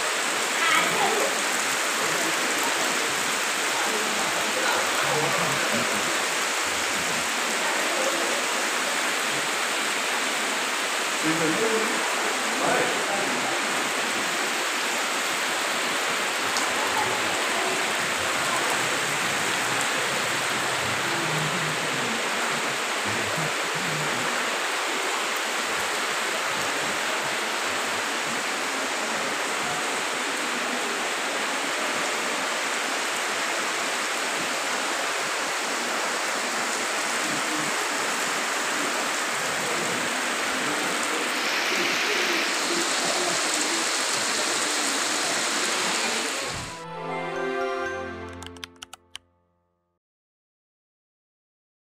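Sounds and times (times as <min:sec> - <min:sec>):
heavy rain pouring: 0:00.0 - 0:48.6.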